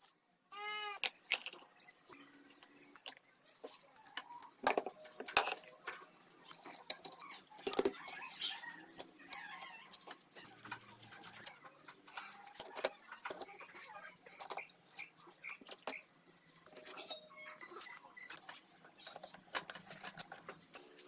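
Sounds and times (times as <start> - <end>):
metal parts and tools clinking: 2.6 - 21.0.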